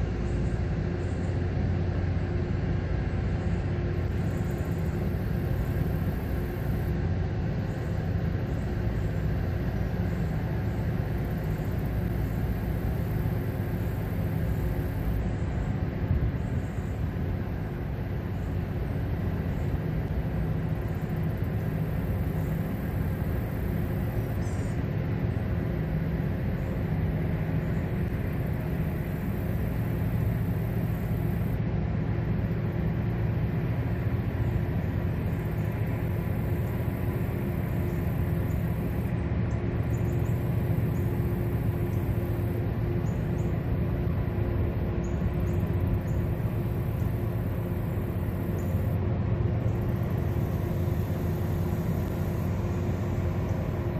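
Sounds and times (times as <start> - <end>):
boat engine rumble: 0.0 - 53.9
faint steady hum: 0.0 - 53.9.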